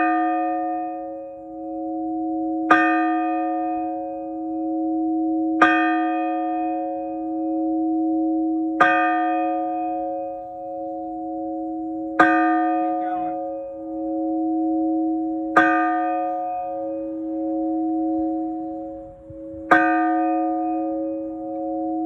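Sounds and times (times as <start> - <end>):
church bell clanging: 0.0 - 22.0.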